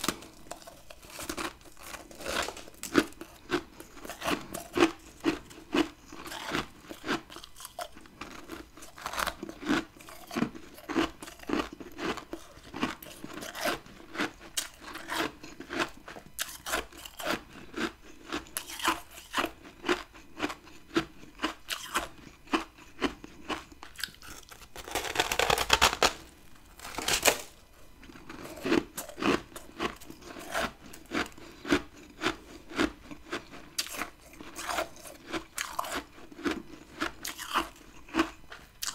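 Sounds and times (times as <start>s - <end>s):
person chewing frost crunching: 0.0s - 38.9s.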